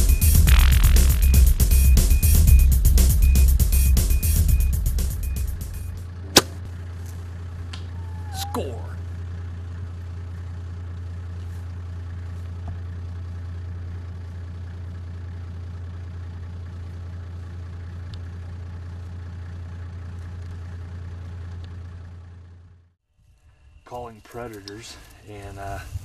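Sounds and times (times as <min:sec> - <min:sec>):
vehicle engine idling: 0:00.0 - 0:23.0, 0:23.8 - 0:26.0.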